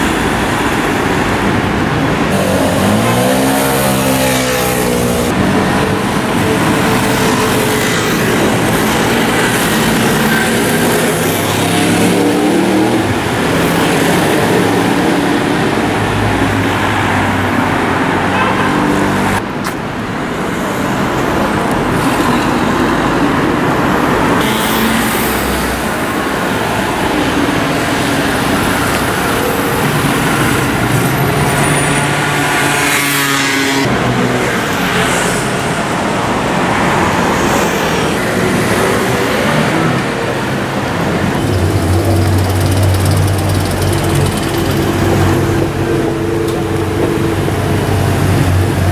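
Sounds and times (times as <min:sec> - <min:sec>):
road noise: 0:00.0 - 0:48.9
motorcycle engines passing: 0:02.1 - 0:18.2, 0:23.6 - 0:48.9.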